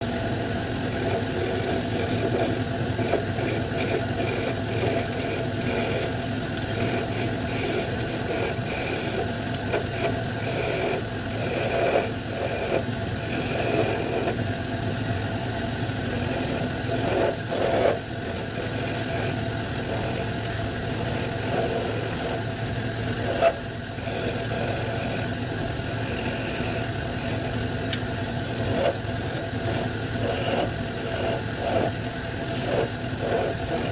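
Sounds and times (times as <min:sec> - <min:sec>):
wood lathe motor hum: 0:00.0 - 0:33.9
turning tool scraping wood: 0:00.8 - 0:14.5, 0:15.9 - 0:33.9.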